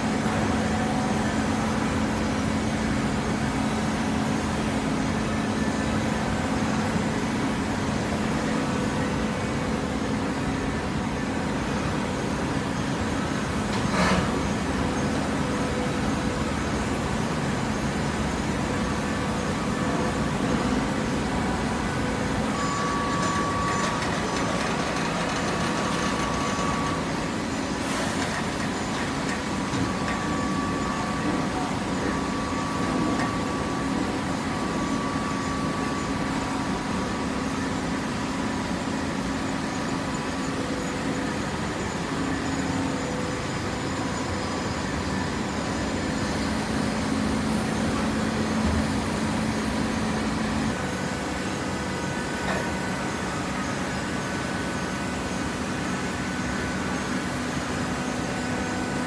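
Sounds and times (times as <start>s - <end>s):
baler machine hum: 0.0s - 59.0s.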